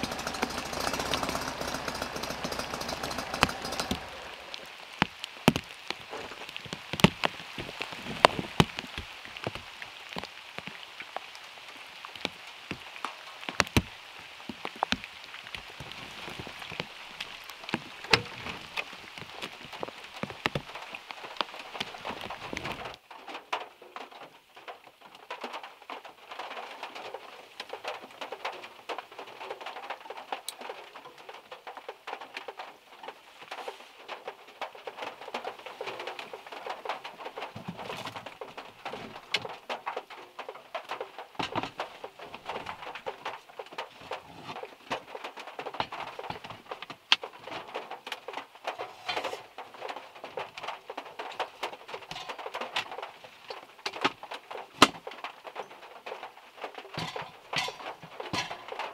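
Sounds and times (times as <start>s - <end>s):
rain pattering on car roof: 0.0s - 58.9s.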